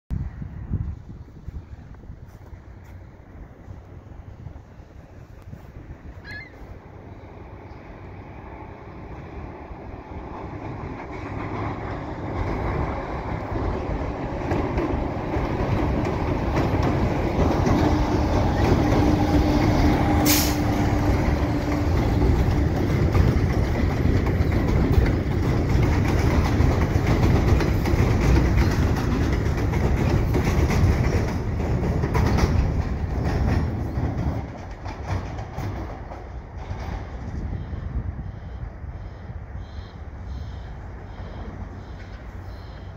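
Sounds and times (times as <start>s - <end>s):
train rumbling over steel bridge: 0.1s - 42.9s.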